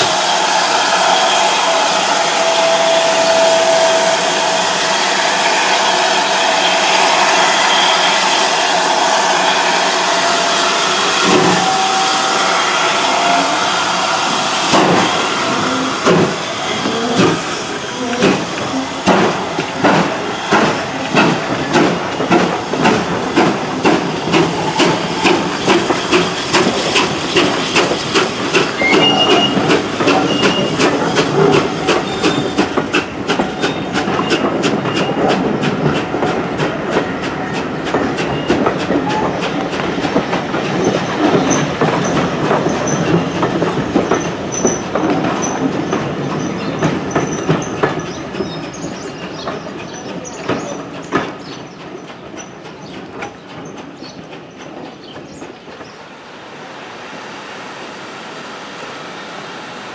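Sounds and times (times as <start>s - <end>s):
steam locomotive hissing: 0.0s - 59.9s
locomotive exhaust beats: 1.0s - 56.2s.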